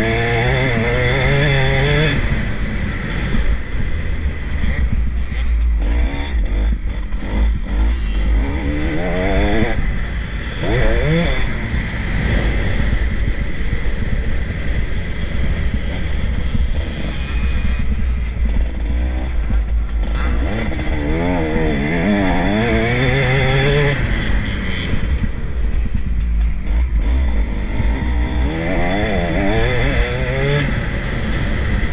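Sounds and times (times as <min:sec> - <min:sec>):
low rumble: 0:00.0 - 0:31.9
motocross bikes revving past: 0:00.0 - 0:31.9.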